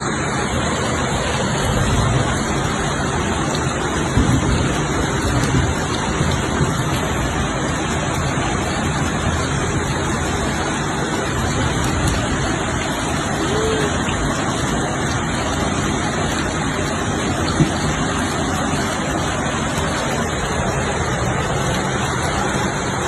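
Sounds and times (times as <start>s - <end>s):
heavy rain: 0.0s - 23.0s
rushing floodwater: 0.0s - 23.0s.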